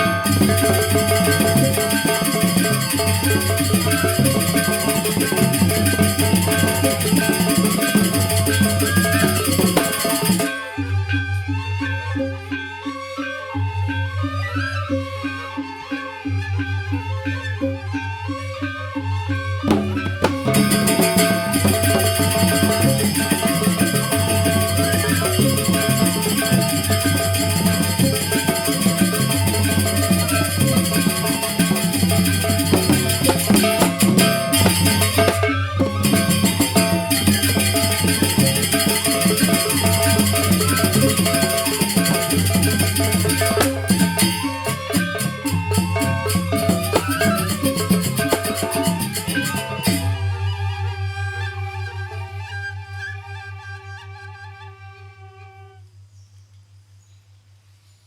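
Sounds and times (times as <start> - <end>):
gamelan ensemble playing: 0.0 - 16.1, 18.4 - 53.7.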